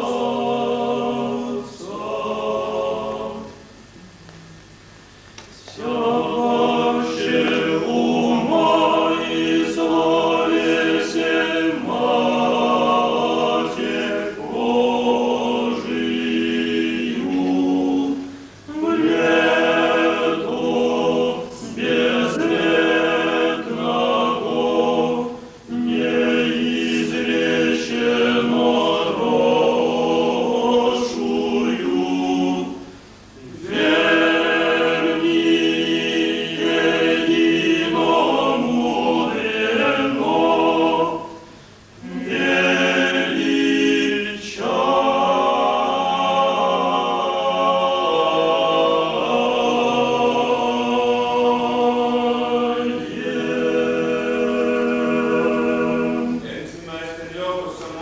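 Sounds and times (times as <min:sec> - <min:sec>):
a cappella church choir chanting: 0:00.0 - 0:04.0, 0:05.6 - 0:58.0.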